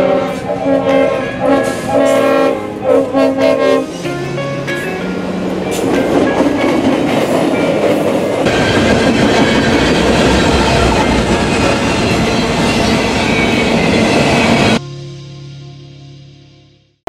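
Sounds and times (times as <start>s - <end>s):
diesel locomotives passing: 0.0s - 14.8s
freight train wheels rumbling: 0.0s - 14.8s.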